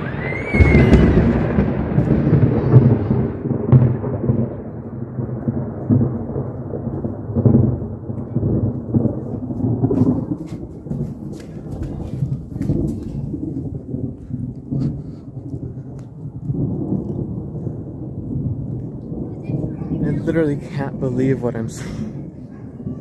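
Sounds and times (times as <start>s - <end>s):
loud rolling thunder: 0.0s - 23.0s.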